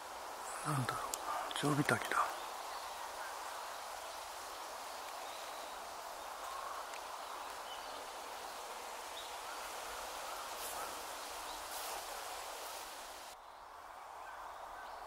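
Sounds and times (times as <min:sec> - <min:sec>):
outdoor background noise: 0:00.0 - 0:15.0
faint bird chirps: 0:00.4 - 0:15.0.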